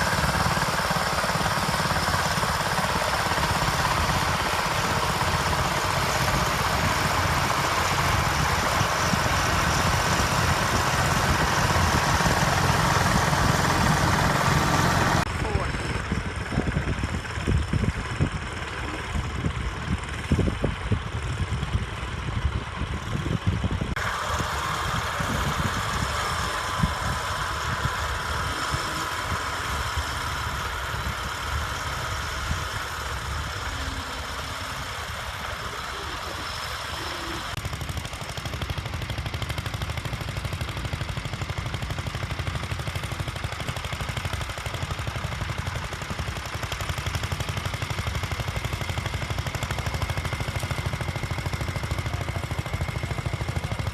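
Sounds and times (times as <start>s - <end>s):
tractor engines running: 0.0s - 53.9s.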